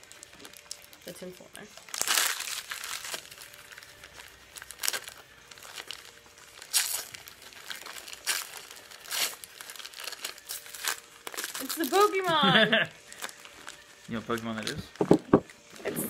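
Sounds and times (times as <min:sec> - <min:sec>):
paper crinkling and rustling: 0:01.8 - 0:12.2, 0:13.0 - 0:16.0.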